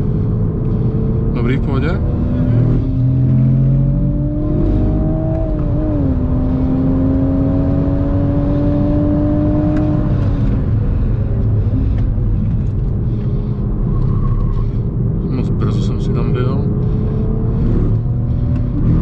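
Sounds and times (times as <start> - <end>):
car engine accelerating: 0.0 - 19.0
road and tyre rumble: 0.0 - 19.0.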